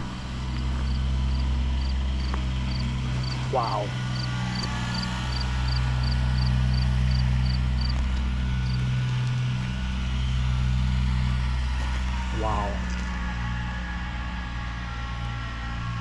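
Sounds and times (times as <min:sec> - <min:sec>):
low engine-like hum: 0:00.0 - 0:16.0.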